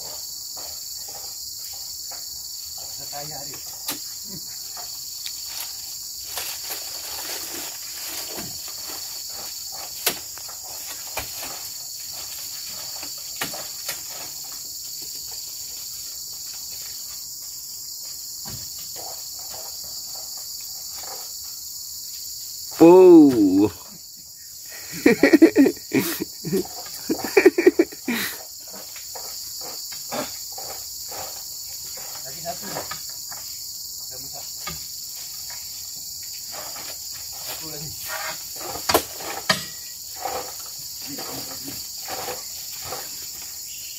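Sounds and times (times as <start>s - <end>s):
insect chorus: 0.0s - 43.9s.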